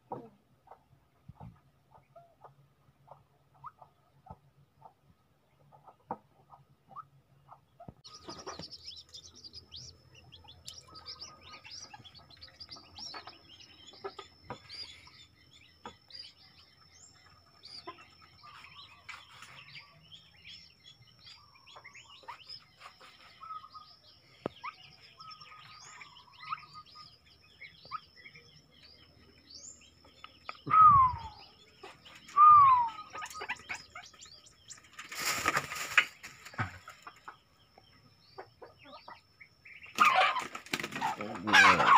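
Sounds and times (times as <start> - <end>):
chicks chirping and peeping: 0.1 - 41.9.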